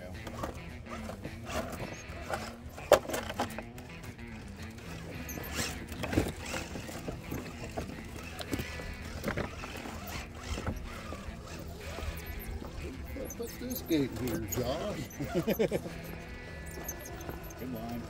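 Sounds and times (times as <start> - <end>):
electric motor whining: 0.0 - 18.0
tires knocking on rocks: 0.0 - 18.0.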